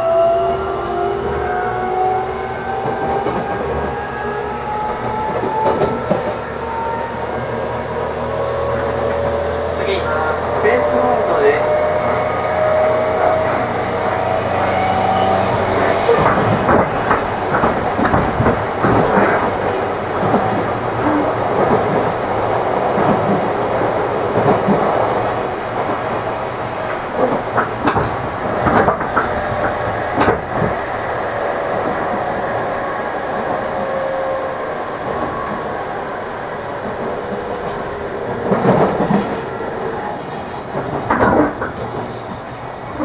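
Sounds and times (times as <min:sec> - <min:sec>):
rail joint clicks: 0:00.0 - 0:43.0
train wheels rumbling on rails: 0:00.0 - 0:43.0.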